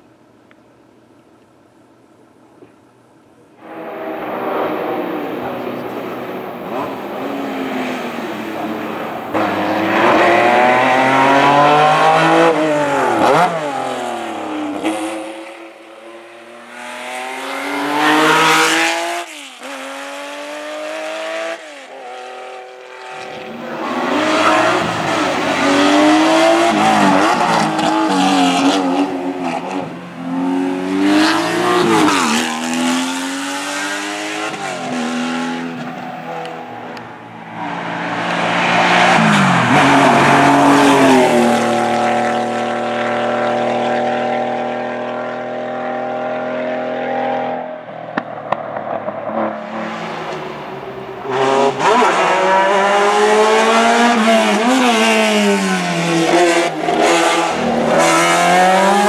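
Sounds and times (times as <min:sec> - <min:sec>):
racing car engines revving past: 0:03.6 - 0:59.0.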